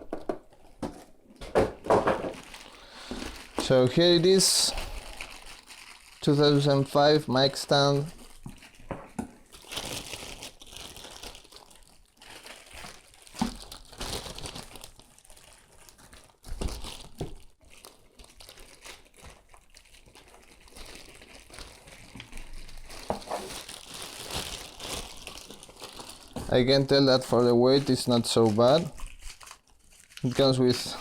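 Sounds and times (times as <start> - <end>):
packaging crinkling and rustling: 1.8 - 31.0.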